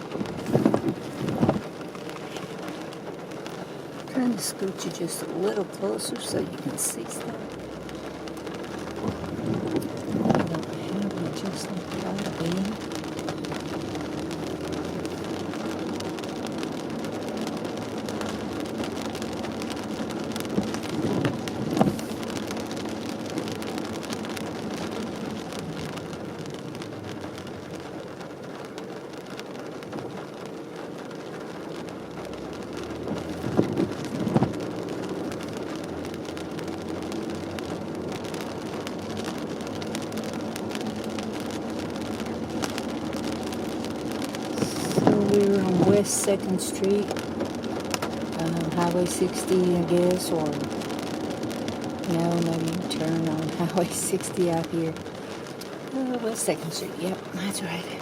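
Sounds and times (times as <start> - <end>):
car running hum: 0.0 - 57.8
rain and wet tyres hissing: 0.0 - 58.0.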